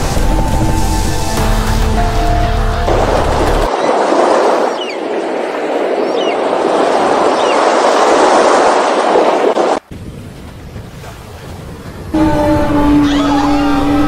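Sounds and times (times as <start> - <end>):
steady rushing noise: 0.0 - 12.2.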